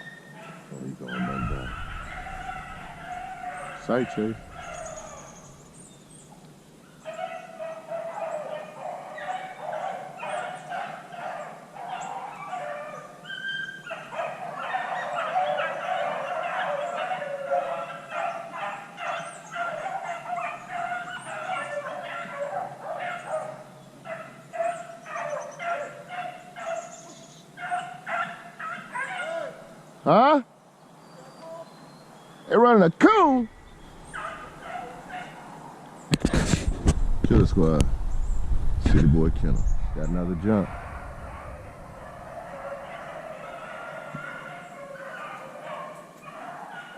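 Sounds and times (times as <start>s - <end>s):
beagles baying: 0.0s - 29.9s, 33.2s - 36.6s, 39.6s - 46.9s.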